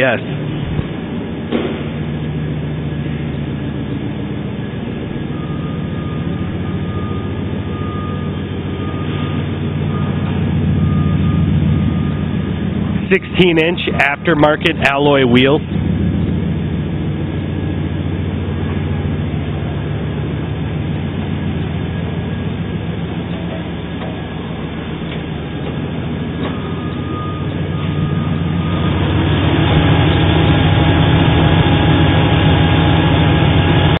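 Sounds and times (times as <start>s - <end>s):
pickup truck engine running: 0.0s - 34.0s.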